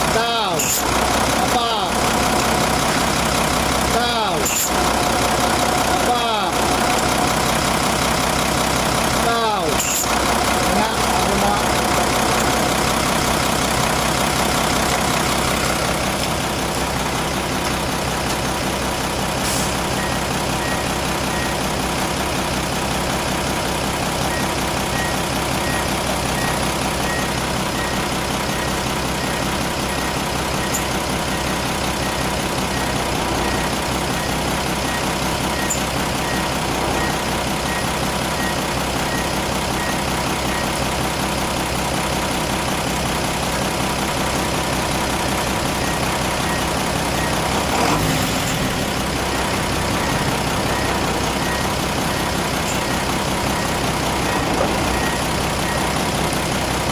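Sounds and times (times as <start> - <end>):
diesel bus engine idling: 0.0 - 56.9.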